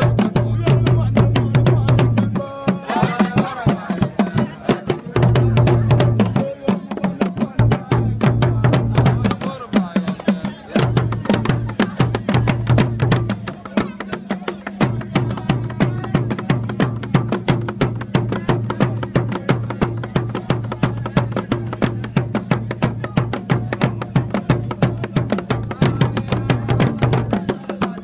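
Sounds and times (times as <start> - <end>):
fast drum beating: 0.0 - 28.0.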